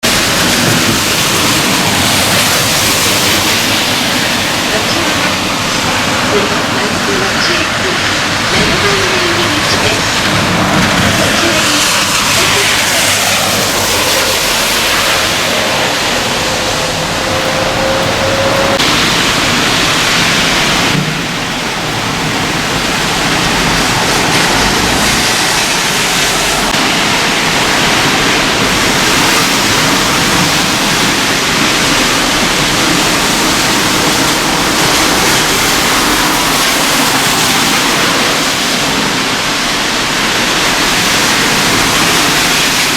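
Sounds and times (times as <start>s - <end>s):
strong wind rushing: 0.0s - 42.9s.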